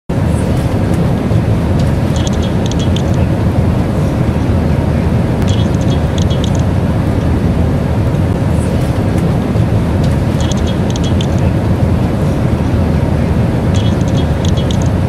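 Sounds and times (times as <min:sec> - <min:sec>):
airliner engines and airflow roar: 0:00.1 - 0:15.0.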